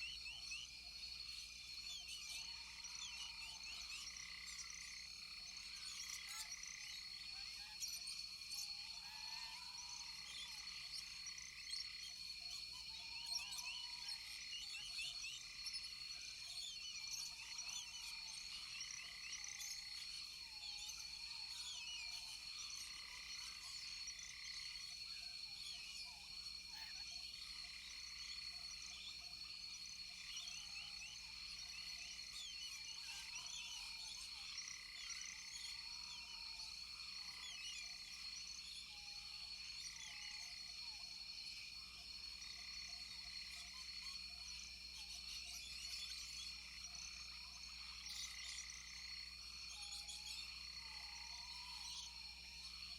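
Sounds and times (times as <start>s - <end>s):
frogs chirping: 0.0s - 52.9s.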